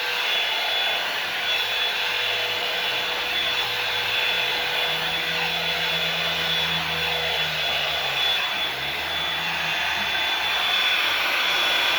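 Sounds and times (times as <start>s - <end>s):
hair dryer blowing: 0.0s - 11.9s.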